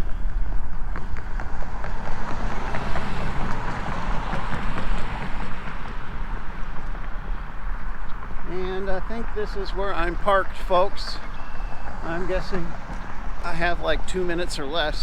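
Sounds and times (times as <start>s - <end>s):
faint footsteps walking: 0.0s - 14.3s
wind buffeting microphone: 0.0s - 15.0s.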